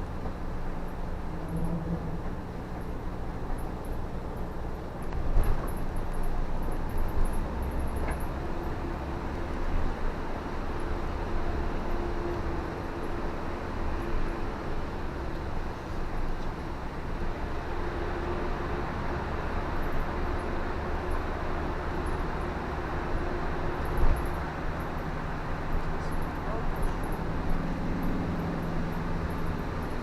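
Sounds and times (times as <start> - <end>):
car road rumble: 0.0 - 30.0.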